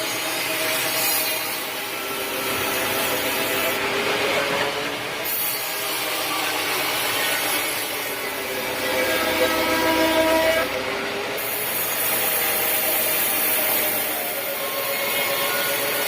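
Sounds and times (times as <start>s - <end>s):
saw cutting wood: 0.0s - 16.0s
saw motor whine: 0.0s - 16.0s.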